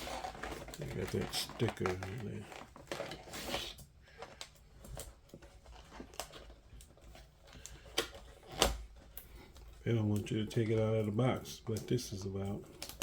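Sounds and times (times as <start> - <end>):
cardboard packaging handled: 0.0 - 11.2.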